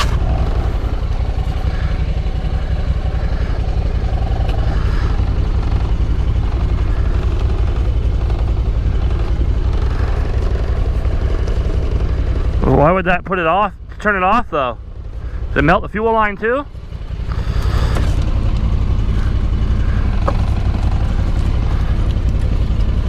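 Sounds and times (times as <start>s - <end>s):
utility vehicle engine idling: 0.0s - 23.0s.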